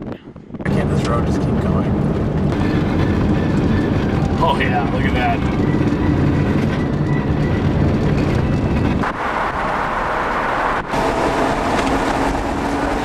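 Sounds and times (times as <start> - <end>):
car road and engine rumble: 0.0 - 13.0
rushing road noise: 0.0 - 13.0.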